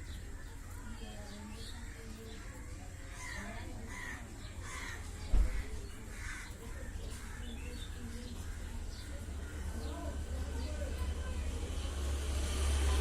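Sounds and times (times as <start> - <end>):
birds calling harshly: 0.0 - 11.5.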